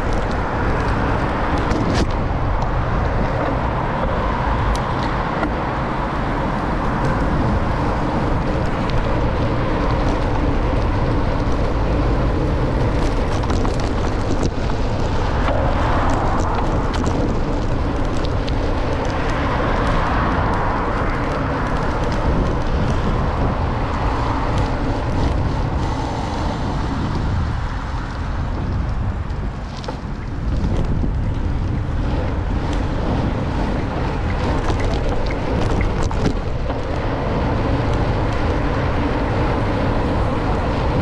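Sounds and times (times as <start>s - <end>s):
cars passing: 0.0s - 41.0s
city traffic noise: 0.0s - 41.0s.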